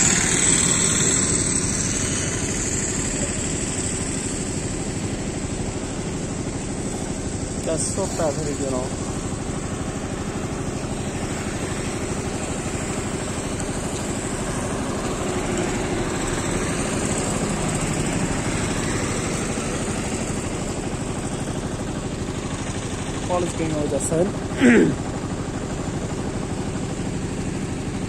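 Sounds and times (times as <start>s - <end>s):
engine running with high whine: 0.0s - 28.0s.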